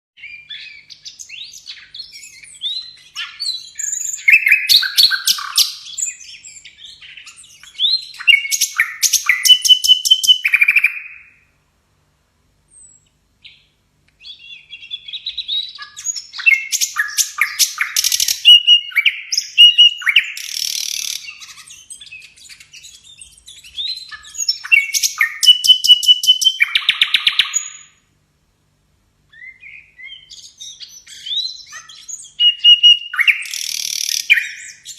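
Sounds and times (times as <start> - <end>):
songbird singing: 0.2 - 11.6, 12.6 - 28.2, 29.2 - 34.9.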